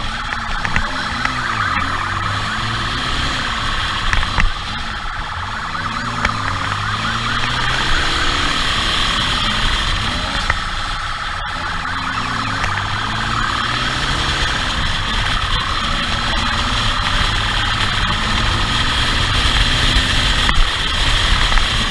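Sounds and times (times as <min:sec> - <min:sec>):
motorcycle engine at speed: 0:00.0 - 0:21.9
police siren warbling: 0:00.0 - 0:21.9.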